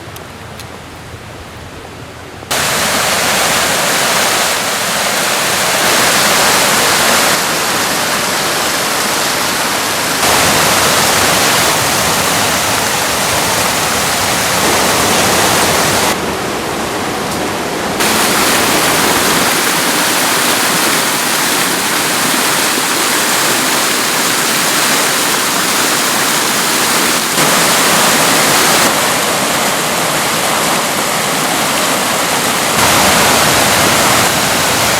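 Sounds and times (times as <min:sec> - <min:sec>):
river rushing over rocks: 0:02.5 - 0:34.9.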